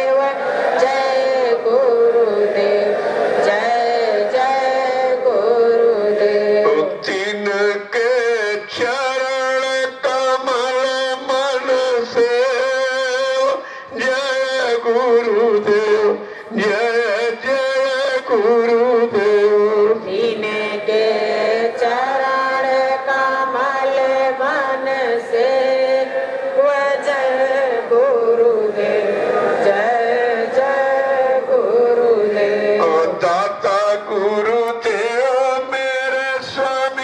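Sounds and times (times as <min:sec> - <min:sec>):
devotional chanting: 0:00.0 - 0:37.0.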